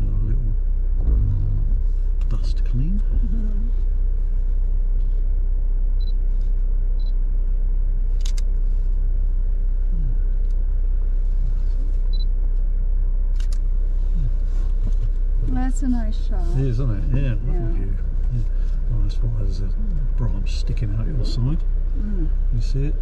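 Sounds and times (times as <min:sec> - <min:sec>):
engine and tyres rumbling: 0:00.0 - 0:23.0.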